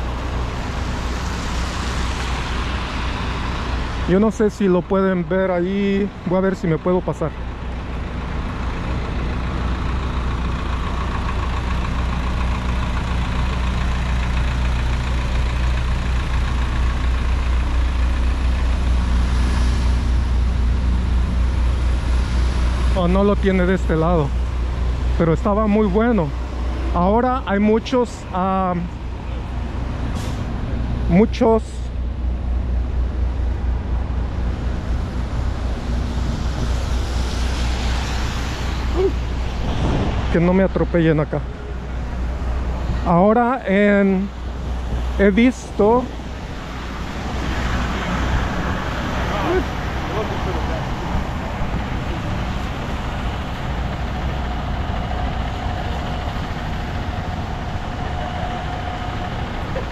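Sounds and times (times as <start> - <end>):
tyres hissing on wet road: 0.0 - 5.3, 7.6 - 25.2, 29.0 - 31.1, 32.2 - 43.0, 43.9 - 59.9
street traffic: 0.0 - 59.9
truck engine idling: 0.0 - 59.9.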